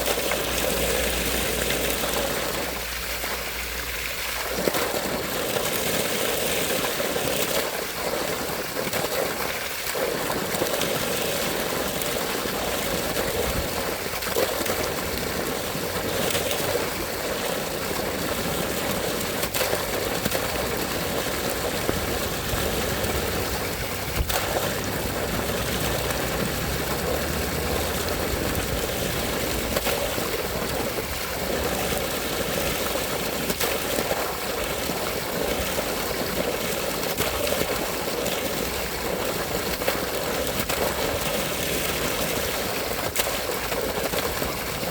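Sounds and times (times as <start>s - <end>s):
stream water rushing and gurgling: 0.0s - 44.9s.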